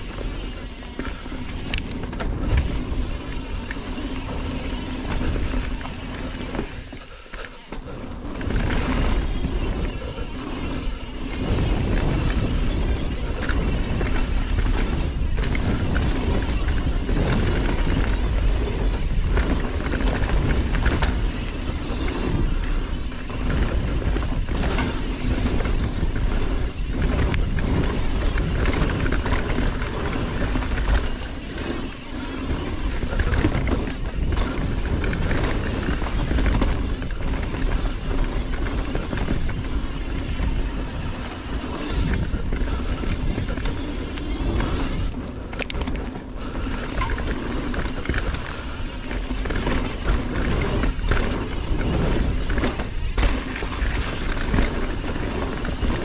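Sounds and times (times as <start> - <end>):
bike rattling and knocking: 0.0 - 56.0
tyres rumbling on dirt trail: 0.0 - 56.0
wind buffeting microphone: 8.2 - 56.0.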